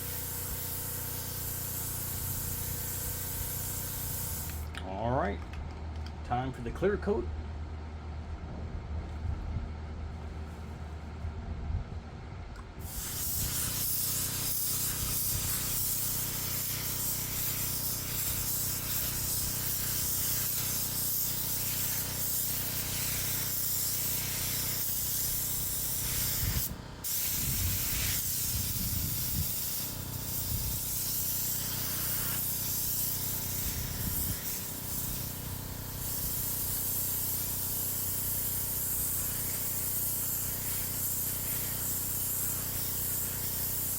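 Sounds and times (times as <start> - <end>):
spray gun hissing: 0.0 - 4.7, 12.8 - 43.9
steady low hum: 0.0 - 37.6.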